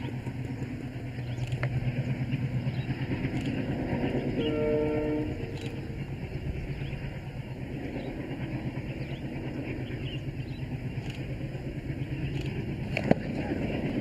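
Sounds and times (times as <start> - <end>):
locomotive engine droning: 0.0 - 14.0.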